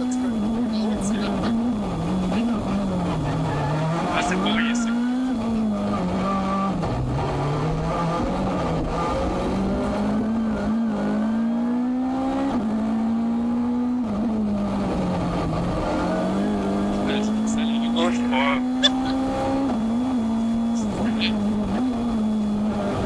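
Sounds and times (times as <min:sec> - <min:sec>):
rally car engine accelerating: 0:00.0 - 0:23.0.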